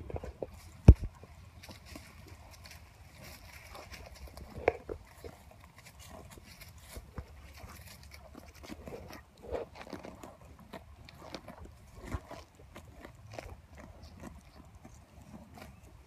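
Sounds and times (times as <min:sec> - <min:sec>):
cattle chewing grass: 0:00.0 - 0:16.0.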